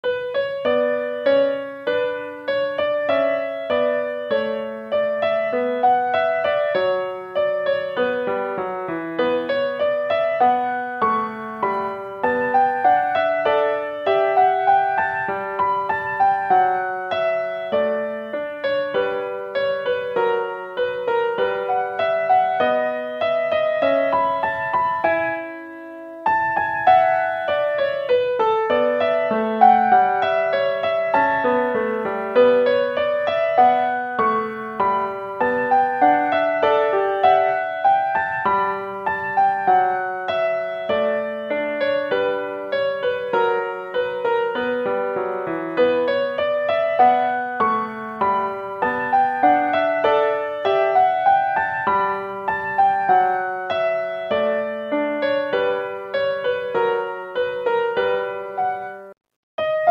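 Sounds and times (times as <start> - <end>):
gentle piano melody: 0.0 - 59.9.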